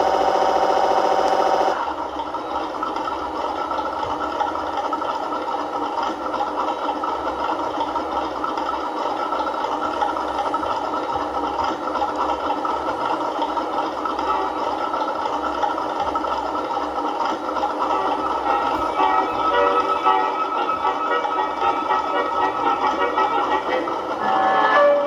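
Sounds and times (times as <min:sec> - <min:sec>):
simulated tank engine idling: 0:00.0 - 0:25.0.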